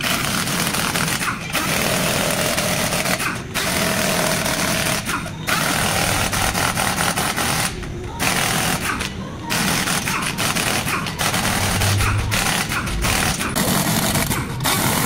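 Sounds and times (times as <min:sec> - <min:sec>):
pneumatic impact wrench hammering: 0:00.0 - 0:15.0.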